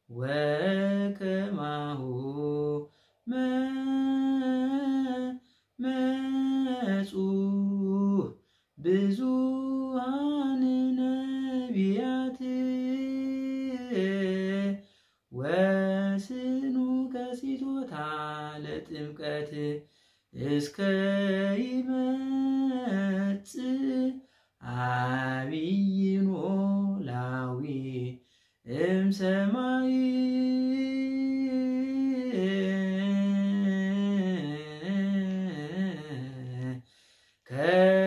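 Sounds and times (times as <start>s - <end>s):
man singing a hymn unaccompanied: 0.0s - 38.0s.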